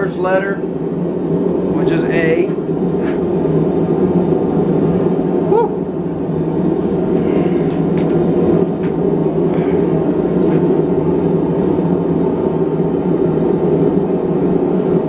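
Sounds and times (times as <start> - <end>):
forge low rushing noise: 0.0 - 15.0.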